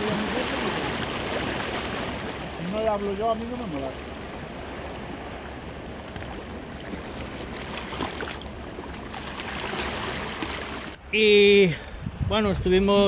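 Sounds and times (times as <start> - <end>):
waves sloshing against rocks: 0.0 - 11.0.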